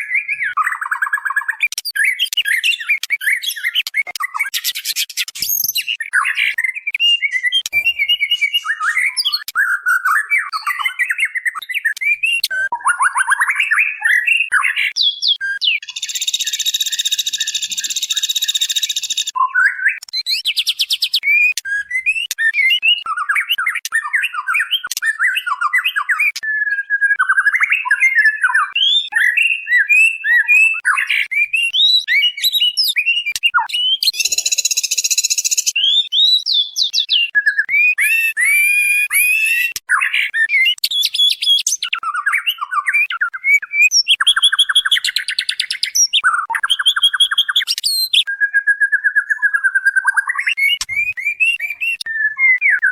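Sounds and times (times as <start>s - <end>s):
bird chirps and whistles: 0.0s - 52.9s.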